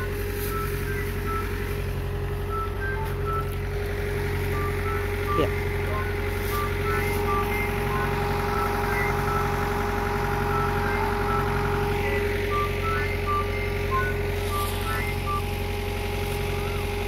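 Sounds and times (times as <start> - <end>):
excavator diesel engine idling: 0.0 - 17.0
short high beeping tones: 0.0 - 17.0.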